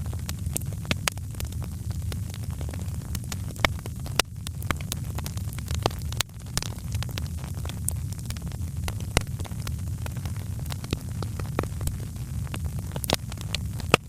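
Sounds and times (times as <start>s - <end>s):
low rumble of fire: 0.0s - 14.0s
wood fire crackling: 0.0s - 14.0s.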